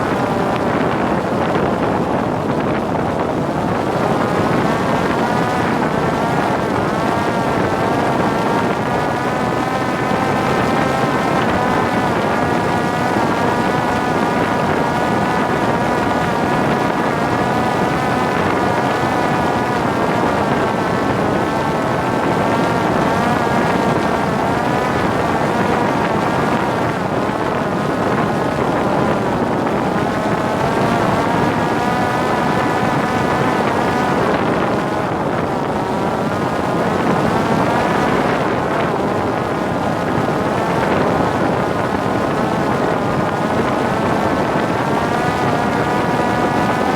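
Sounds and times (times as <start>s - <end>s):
drone motor whine: 0.0s - 46.9s
wind on microphone: 0.0s - 46.9s.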